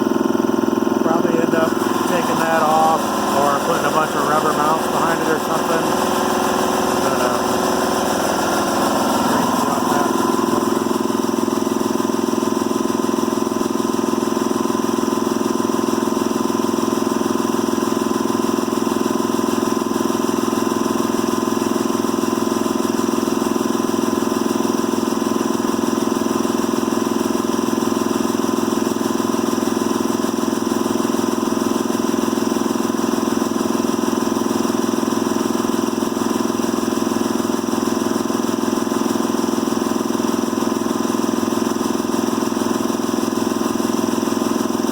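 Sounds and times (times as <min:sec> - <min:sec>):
air compressor running: 0:00.0 - 0:44.9.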